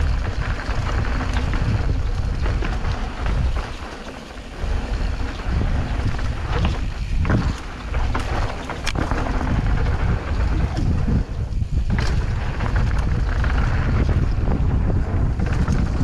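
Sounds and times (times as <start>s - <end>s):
bike clicks and rattles: 0.0s - 16.0s
bike tyres rumbling on dirt: 0.0s - 16.0s
wind buffeting microphone: 0.0s - 16.0s.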